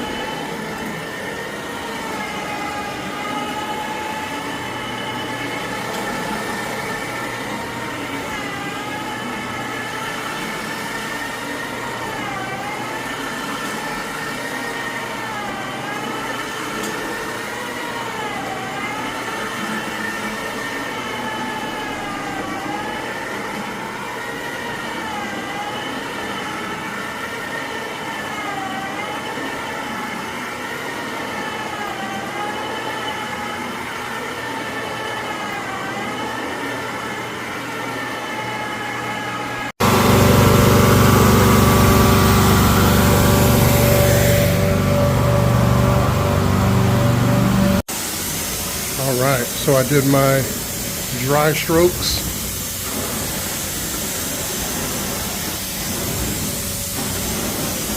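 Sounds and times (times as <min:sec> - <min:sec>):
carpet cleaning machine whine: 0:00.0 - 0:57.9.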